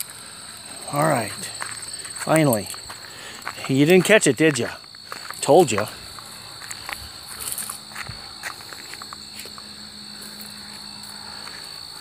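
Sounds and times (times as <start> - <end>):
crickets chirping: 0.0 - 12.0
rustles and footsteps: 0.0 - 12.0.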